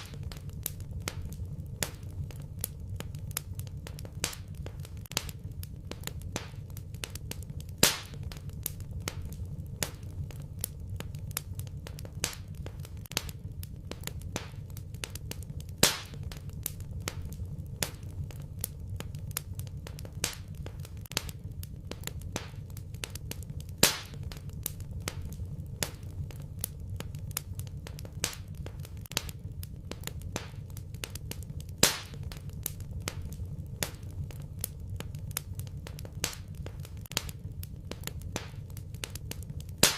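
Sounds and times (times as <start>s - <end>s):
fireplace fire crackling: 0.0s - 39.9s
loud fire pops: 0.0s - 39.9s
low steady rumble: 0.0s - 39.9s.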